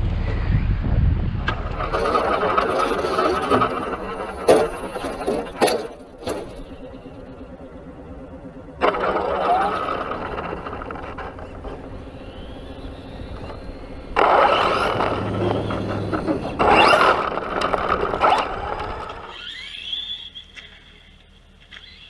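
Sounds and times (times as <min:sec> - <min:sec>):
tyres scraping over ground: 0:01.4 - 0:22.0
electric motor whine: 0:01.5 - 0:22.0.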